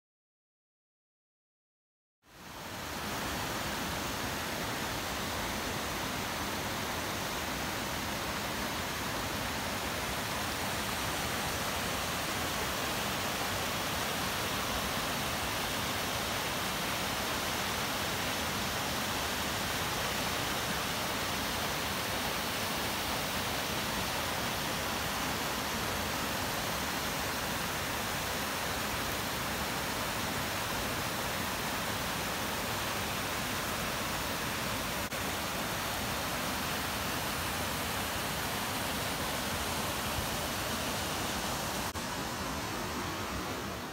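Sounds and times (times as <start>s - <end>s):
stream rushing over rocks: 2.4s - 43.9s.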